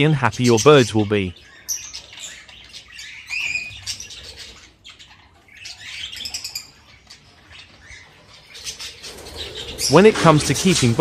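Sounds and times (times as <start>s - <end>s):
budgies chirping: 0.0s - 11.0s.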